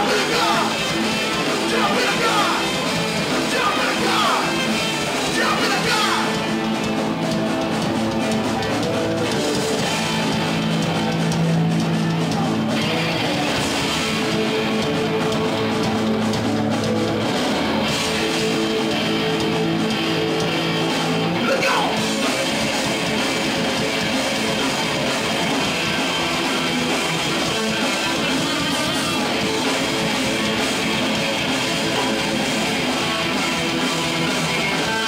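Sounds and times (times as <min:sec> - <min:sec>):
live band playing loud: 0:00.0 - 0:35.0.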